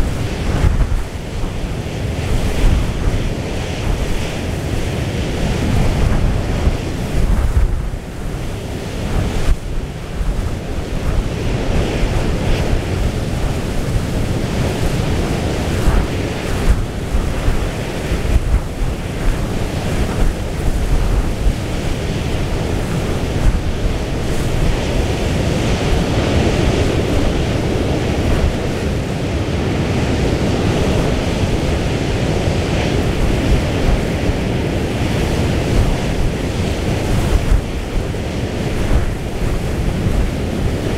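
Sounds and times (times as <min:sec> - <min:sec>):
rough sea breaking: 0:00.0 - 0:40.9
wind buffeting microphone: 0:00.0 - 0:40.9.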